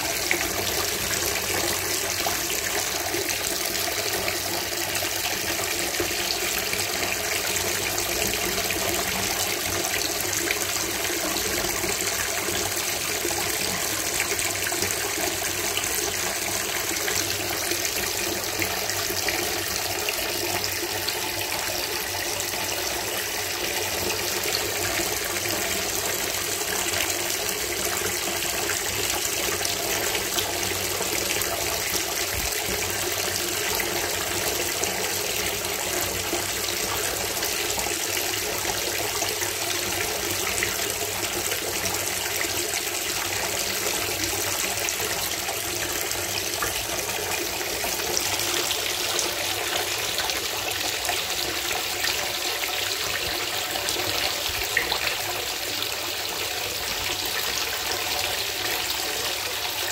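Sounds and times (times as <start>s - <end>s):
water running from tap into tub: 0.0s - 59.9s.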